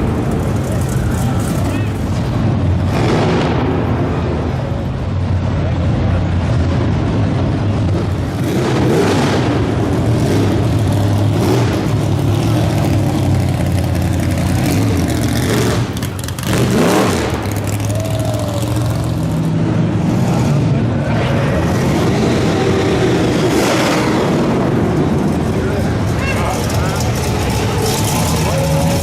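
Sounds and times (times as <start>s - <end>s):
engine revving: 0.0s - 4.6s, 6.3s - 29.0s
car engines rumbling: 0.0s - 29.0s.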